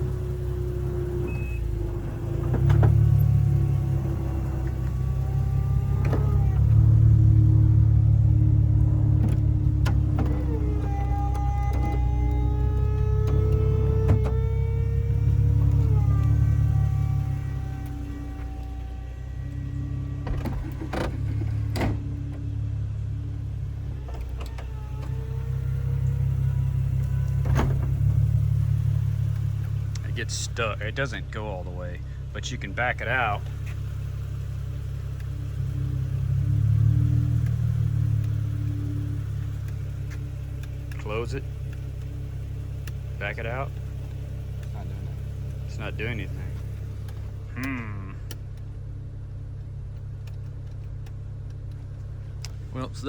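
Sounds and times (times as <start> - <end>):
roof mechanism clicks and clunks: 0.0 - 52.8
car engine running: 0.0 - 53.0
roof motor humming: 0.0 - 53.0.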